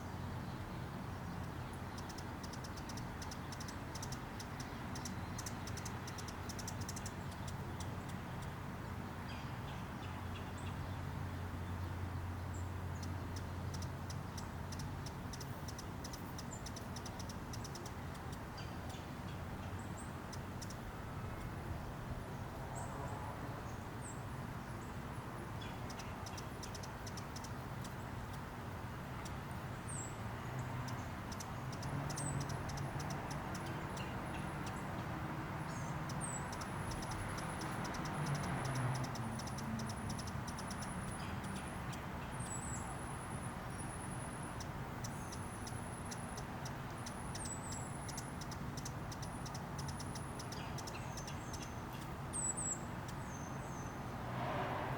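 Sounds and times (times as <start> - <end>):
hummingbirds chirping: 0.0 - 54.2.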